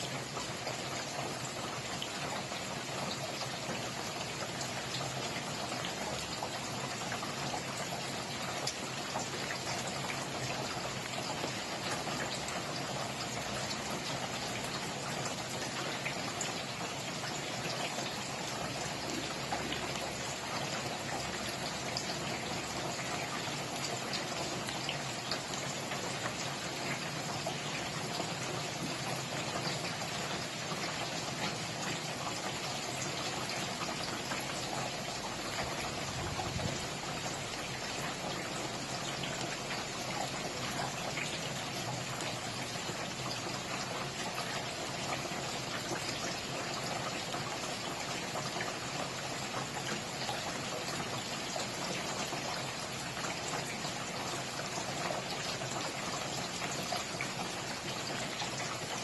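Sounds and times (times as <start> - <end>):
raindrops ticking on a surface: 0.0 - 59.0
steady rain hissing: 0.0 - 59.0.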